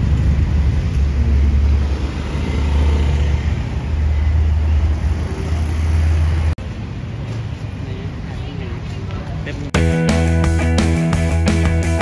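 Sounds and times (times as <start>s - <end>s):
scooter engines: 0.0s - 9.7s
road traffic rumble: 0.0s - 12.0s.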